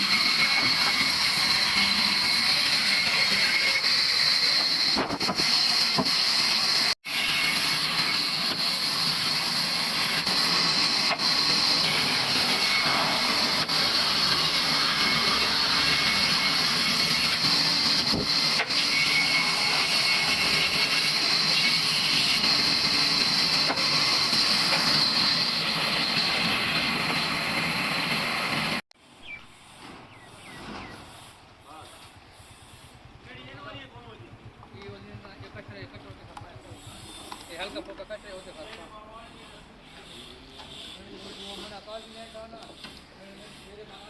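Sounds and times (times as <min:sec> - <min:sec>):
sawmill saw cutting wood: 0:00.0 - 0:28.8, 0:29.5 - 0:44.0.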